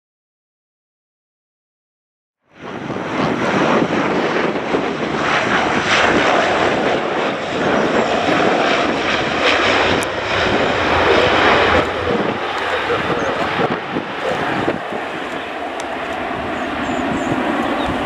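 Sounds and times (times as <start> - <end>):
turboprop aircraft engines: 2.5 - 18.0.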